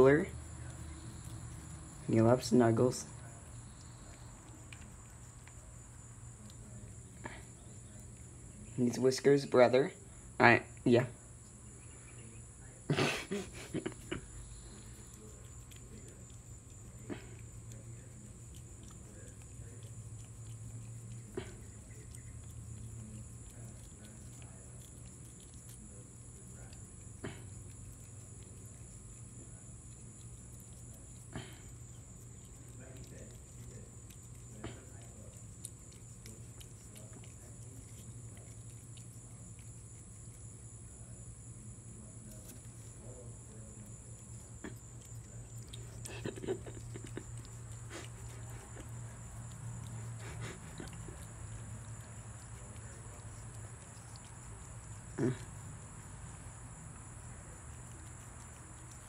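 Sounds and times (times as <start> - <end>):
cat chewing watermelon: 0.0 - 59.0
steady low hum: 0.0 - 59.0.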